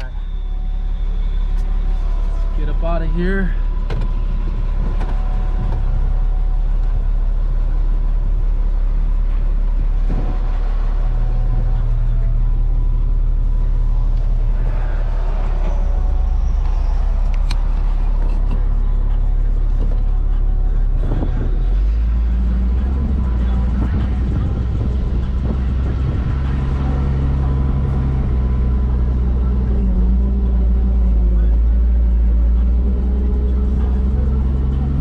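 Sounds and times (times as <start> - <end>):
truck engine driving off: 0.0 - 35.0.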